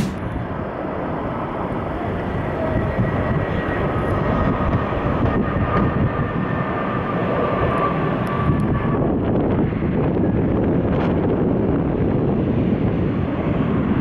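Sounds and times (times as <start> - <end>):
jet engines rushing with whine: 0.0 - 14.0.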